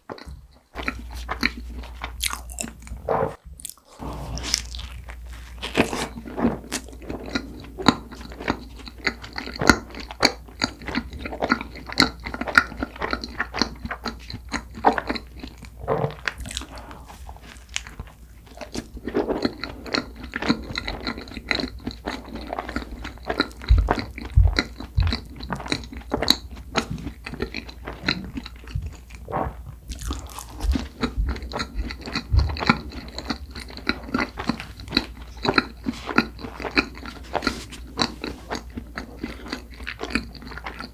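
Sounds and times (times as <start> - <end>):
chewing with wet mouth clicks: 0.1 - 3.0, 4.6 - 40.9.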